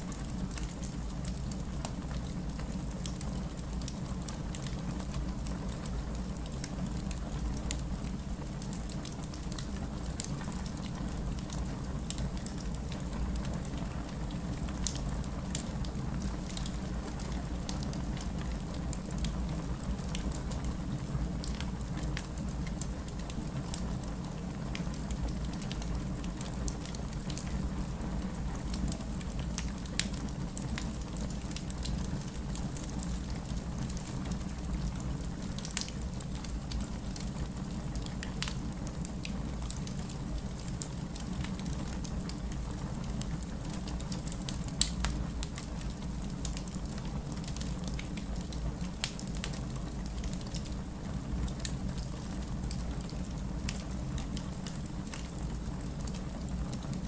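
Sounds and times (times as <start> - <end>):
low fire rumble: 0.0 - 57.0
wood fire crackling and popping: 0.1 - 57.0.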